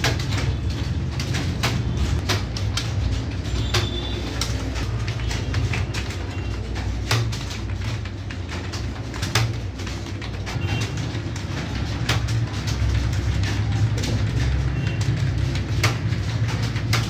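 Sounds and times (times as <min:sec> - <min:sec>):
computer keyboard typing: 0:00.0 - 0:17.0.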